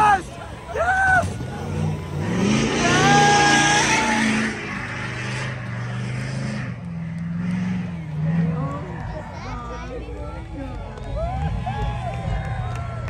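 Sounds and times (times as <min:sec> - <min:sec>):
crowd shouting and cheering: 0:00.0 - 0:13.0
truck engine revving: 0:00.0 - 0:13.0.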